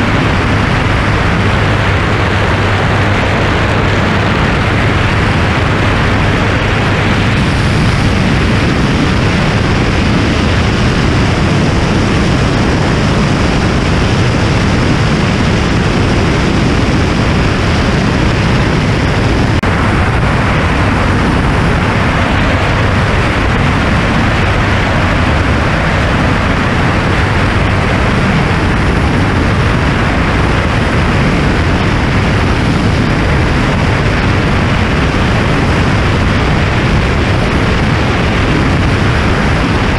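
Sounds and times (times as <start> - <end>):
aircraft engine and propeller drone: 0.0 - 39.9
wind noise on microphone: 0.0 - 39.9.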